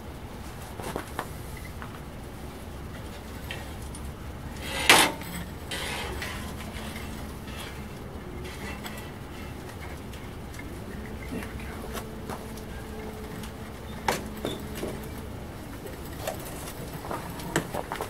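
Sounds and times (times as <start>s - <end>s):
steady low rumble: 0.0s - 17.5s
steel tools clanking: 2.4s - 18.0s.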